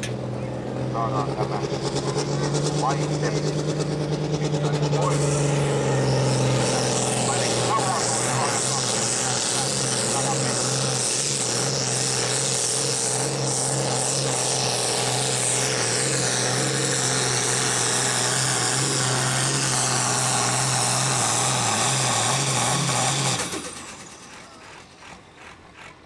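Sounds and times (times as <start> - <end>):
high whine: 0.0 - 21.3
diesel tractor engine at high revs: 0.0 - 26.0.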